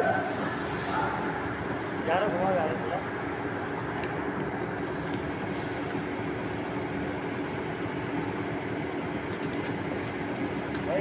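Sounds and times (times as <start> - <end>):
factory machinery humming: 0.0 - 11.0.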